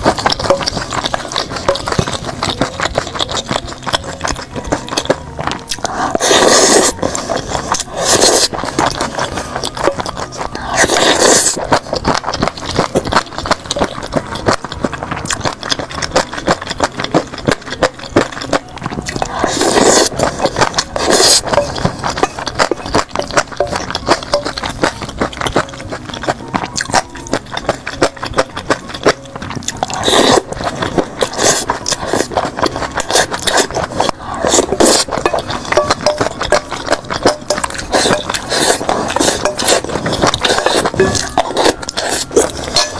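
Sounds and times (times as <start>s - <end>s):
utensils clicking on a bowl: 0.0s - 42.9s
wet chewing: 0.0s - 42.9s.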